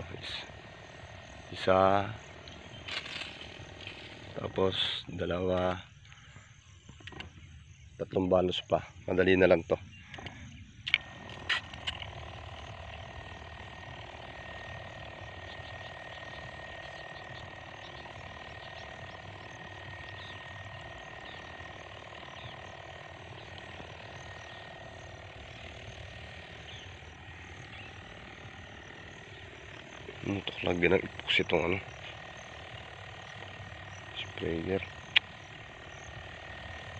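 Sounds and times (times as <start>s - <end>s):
small engine humming with whine: 0.0s - 36.9s.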